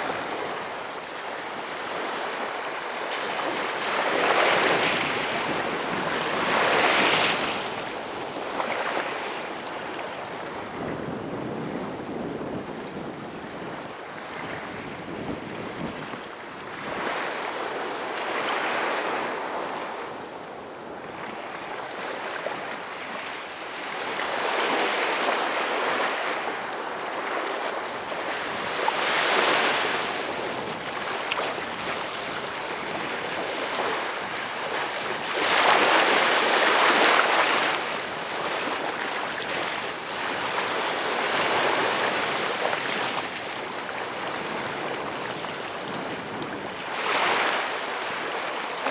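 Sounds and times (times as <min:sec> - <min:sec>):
small waves washing on sand: 0:00.0 - 0:48.9.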